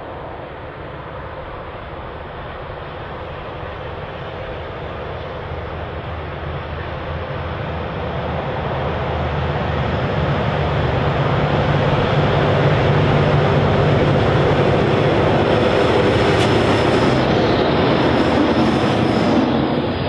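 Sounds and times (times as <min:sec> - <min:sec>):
diesel locomotive engines running: 0:00.0 - 0:20.0.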